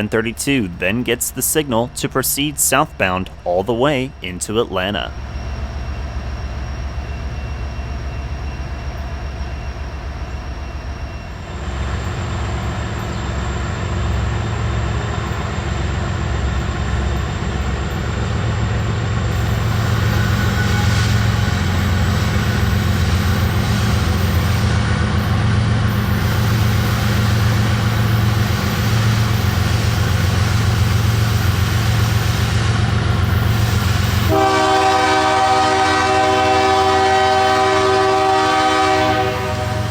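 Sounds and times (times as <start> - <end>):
diesel locomotive engine rumble: 0.0 - 39.9.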